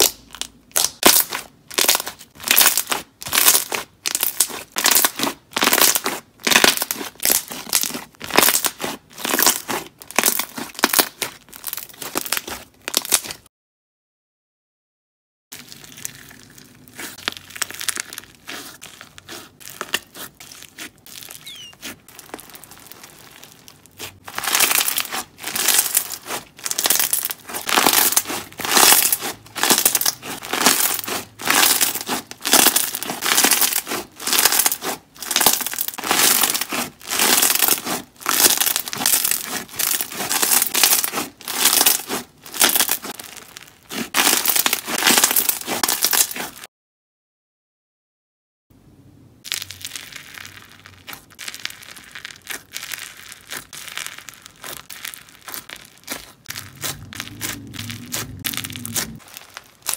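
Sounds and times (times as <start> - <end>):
crunchy slime crackling: 0.0 - 13.5, 15.6 - 46.7, 49.4 - 59.9.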